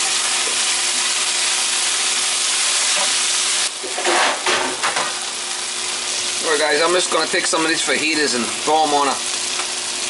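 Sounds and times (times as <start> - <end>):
vegetables sizzling in a skillet: 0.0 - 10.0.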